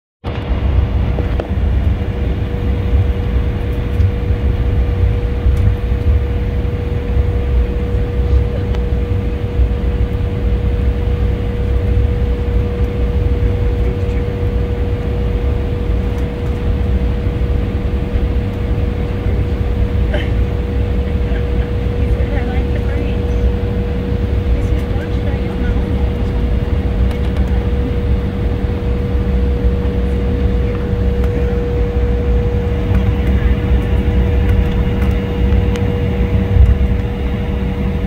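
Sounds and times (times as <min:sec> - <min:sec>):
constant steady whine: 0:00.2 - 0:38.0
jet engines idling rumble: 0:00.2 - 0:38.0.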